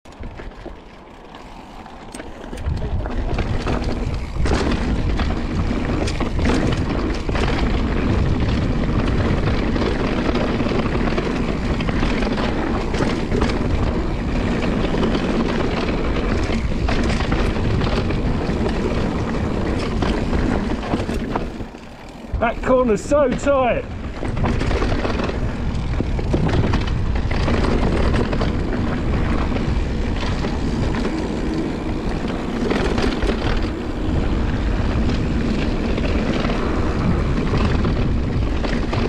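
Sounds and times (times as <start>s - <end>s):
bike rattling over bumps: 0.1s - 39.0s
bike tyres rolling on dirt: 0.1s - 39.0s
wind rushing on microphone: 1.8s - 39.0s.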